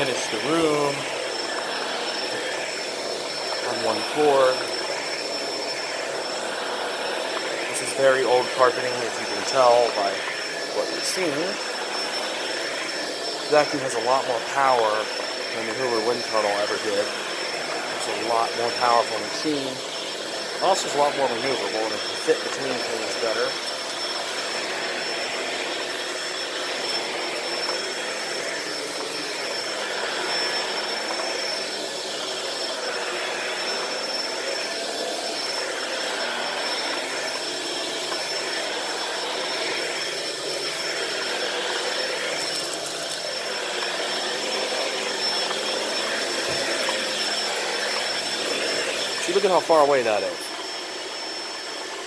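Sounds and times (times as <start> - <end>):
vacuum cleaner running on carpet: 0.0 - 52.0.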